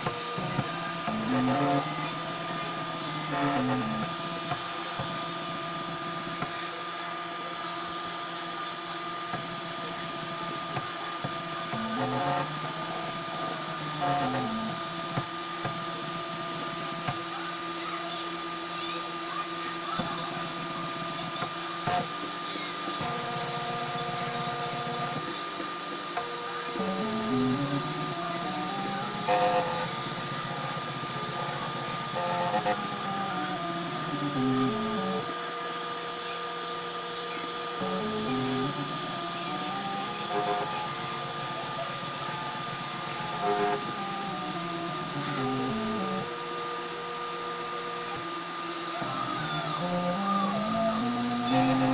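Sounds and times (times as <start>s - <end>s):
stepper motors whining: 0.0s - 51.9s.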